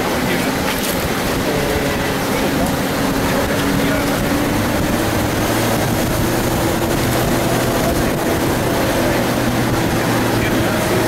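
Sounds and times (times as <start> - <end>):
constant rushing noise: 0.0 - 11.0
vehicle engine running: 0.0 - 11.0.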